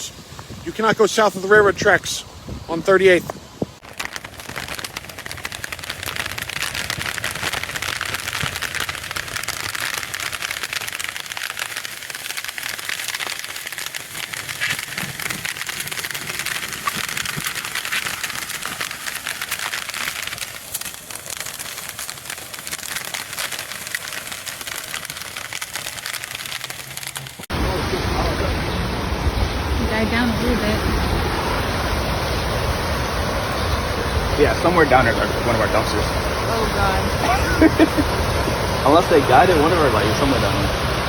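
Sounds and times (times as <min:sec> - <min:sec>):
heavy rain falling: 0:03.8 - 0:41.0.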